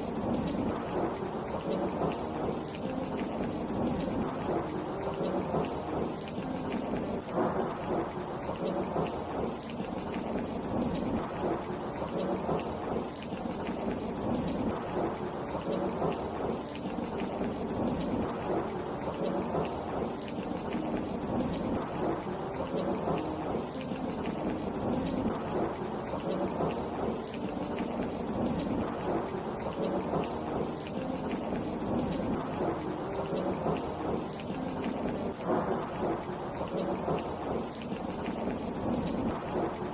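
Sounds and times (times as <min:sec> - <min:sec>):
steady rain falling: 0:00.0 - 0:39.9
thunder rumbling: 0:00.0 - 0:39.9.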